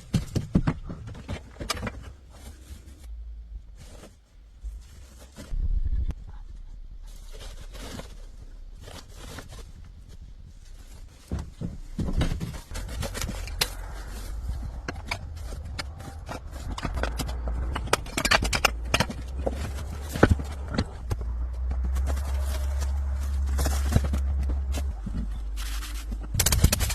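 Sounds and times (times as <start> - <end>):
scraping: 0.0 - 26.9
steady low rumble: 2.0 - 26.9.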